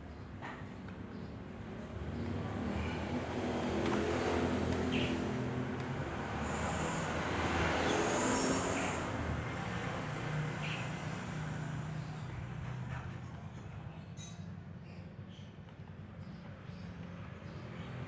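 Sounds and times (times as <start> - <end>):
passing motor traffic rumble: 0.0 - 13.8, 15.9 - 18.0.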